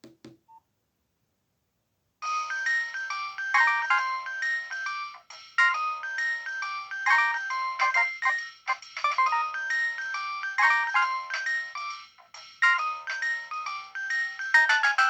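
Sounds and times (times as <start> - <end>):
phone ringtone melody: 2.2 - 15.0.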